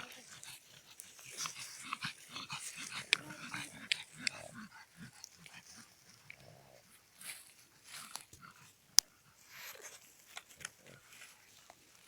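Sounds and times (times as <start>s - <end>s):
small dogs breathing and grunting: 0.0s - 12.0s.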